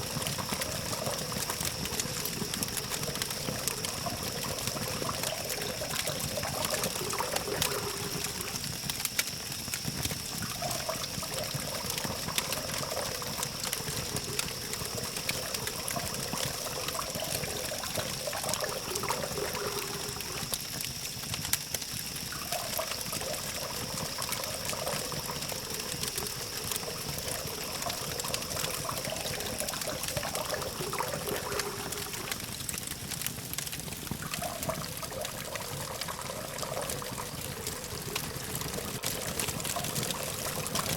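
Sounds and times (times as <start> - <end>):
campfire crackling and popping: 0.0 - 40.9
constant high-pitched tone: 0.0 - 40.9.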